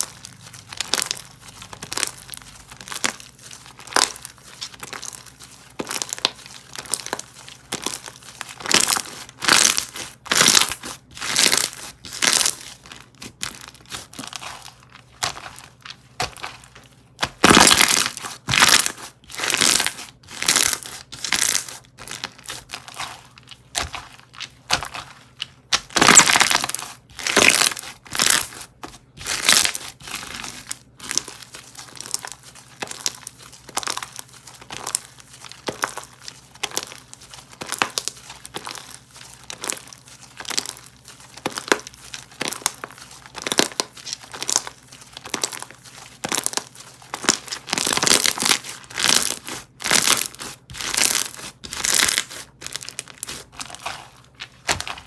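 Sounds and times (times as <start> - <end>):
crunchy slime squeezed by hand: 0.0 - 15.7, 17.2 - 23.1, 25.7 - 28.6, 29.2 - 55.0.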